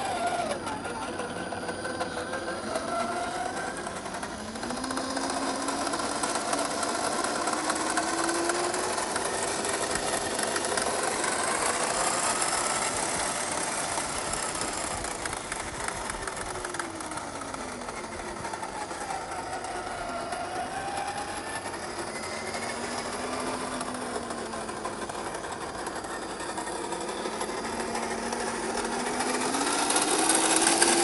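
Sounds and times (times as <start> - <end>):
electric motor and gearbox whining: 0.0 - 31.0.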